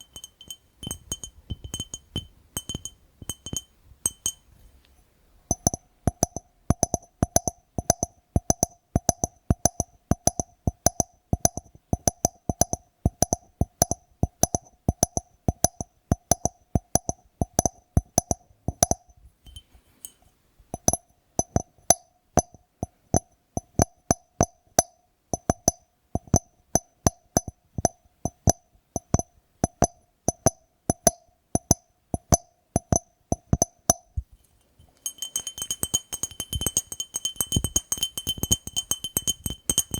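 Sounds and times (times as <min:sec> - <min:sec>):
tapping on a glass jar: 0:00.0 - 0:04.5, 0:05.5 - 0:39.9.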